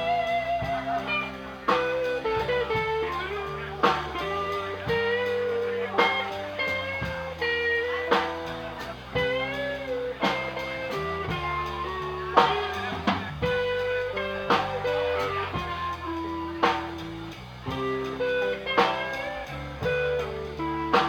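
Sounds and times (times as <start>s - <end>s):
electric guitar chords ringing: 0.0s - 21.0s.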